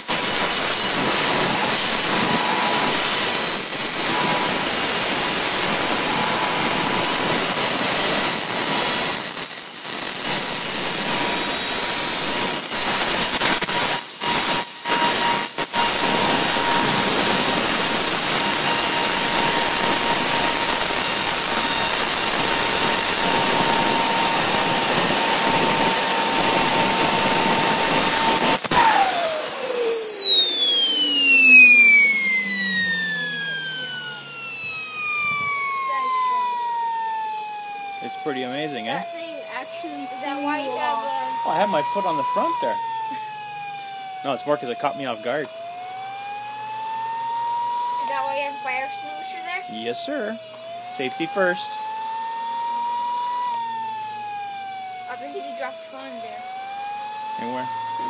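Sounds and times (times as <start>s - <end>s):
jet turbine hiss and whine: 0.0s - 58.0s
turbine spinning down: 0.0s - 58.0s.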